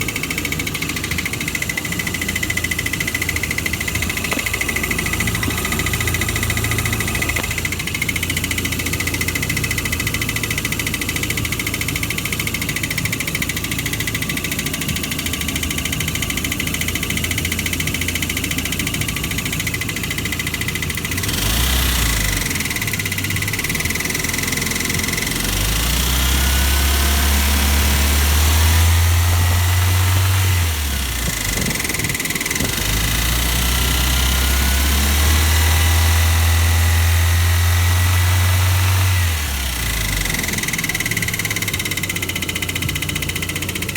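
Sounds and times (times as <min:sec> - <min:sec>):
car engine knocking and revving: 0:00.0 - 0:43.9.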